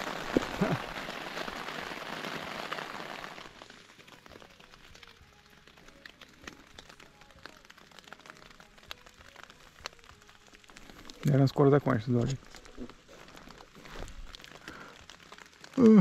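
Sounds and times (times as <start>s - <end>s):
heavy rain on tent: 0.0s - 16.0s.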